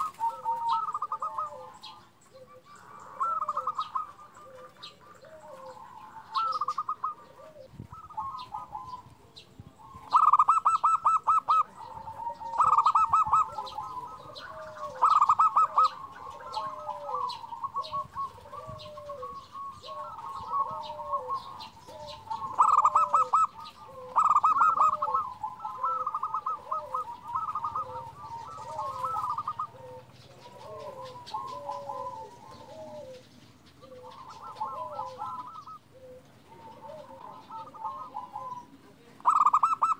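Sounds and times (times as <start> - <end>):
stuttering dove coos: 0.0 - 9.1, 9.8 - 39.9
low dove coo note: 0.0 - 39.9.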